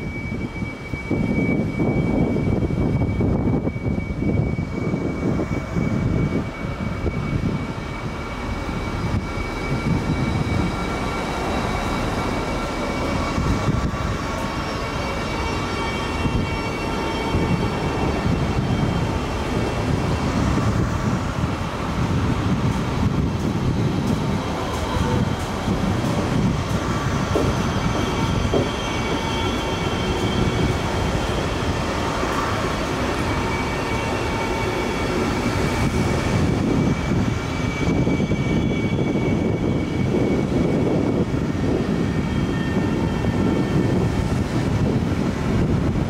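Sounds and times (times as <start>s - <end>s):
steady high tone: 0.0s - 44.5s
train wheels rumbling on rails: 0.0s - 46.0s.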